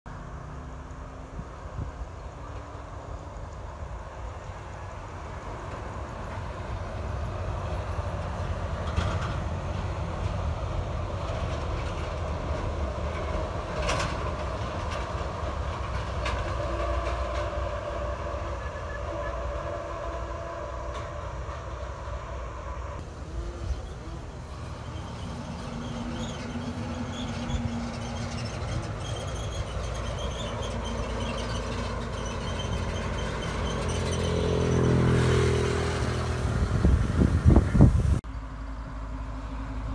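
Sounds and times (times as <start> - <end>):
heavy trucks passing: 0.1 - 39.9.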